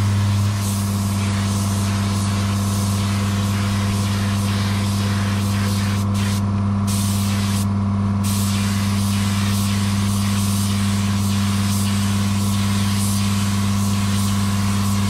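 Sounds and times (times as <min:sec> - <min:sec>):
air compressor humming: 0:00.0 - 0:15.0
paint spray gun hissing: 0:00.0 - 0:15.0.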